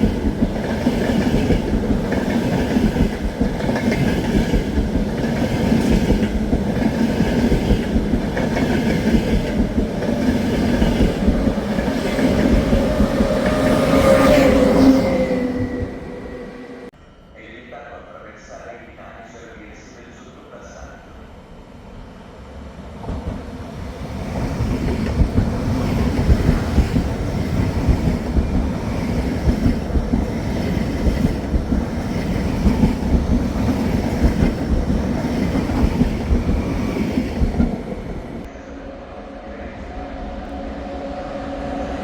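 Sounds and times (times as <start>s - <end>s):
train rumble: 0.0s - 17.0s, 22.6s - 42.0s.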